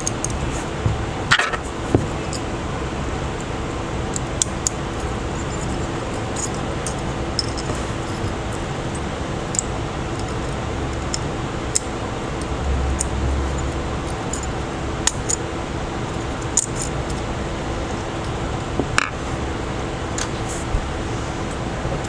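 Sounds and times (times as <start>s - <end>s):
faint constant tone: 0.0s - 22.0s
mechanical hum and hiss: 0.0s - 22.0s.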